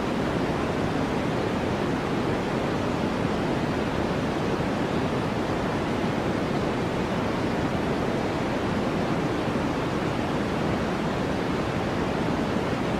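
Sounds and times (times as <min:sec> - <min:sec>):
white noise hiss: 0:00.0 - 0:12.9.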